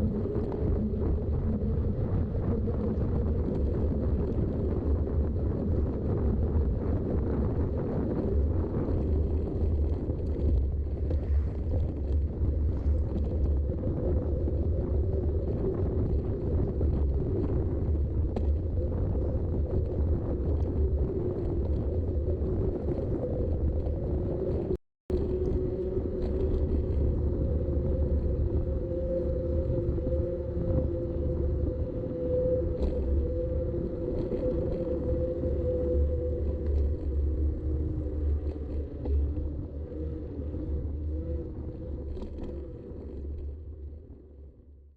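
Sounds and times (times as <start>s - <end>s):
bike tyres rumbling: 0.0s - 44.3s
wind on microphone: 0.0s - 44.9s
faint tyre hum: 0.1s - 44.8s.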